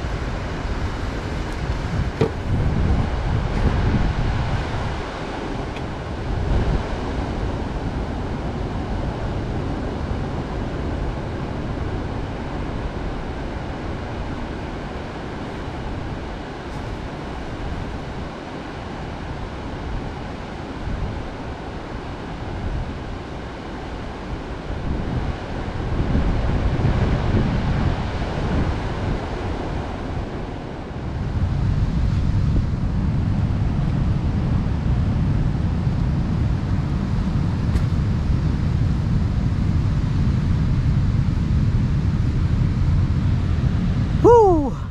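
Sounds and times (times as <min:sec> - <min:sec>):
wind buffeting microphone: 0:00.0 - 0:21.7, 0:24.4 - 0:44.2
sea surf on shore: 0:00.0 - 0:35.2, 0:44.0 - 0:44.9.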